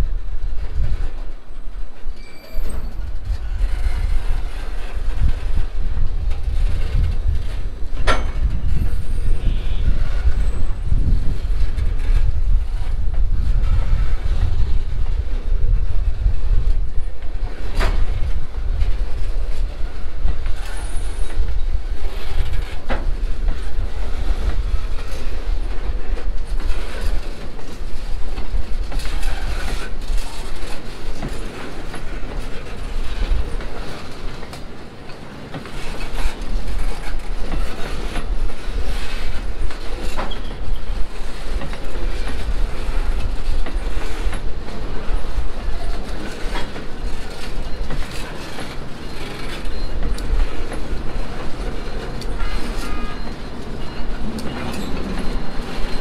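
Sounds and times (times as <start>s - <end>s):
subway train rumbling: 0.0s - 56.0s
wheels clickety-clack on rails: 0.0s - 56.0s.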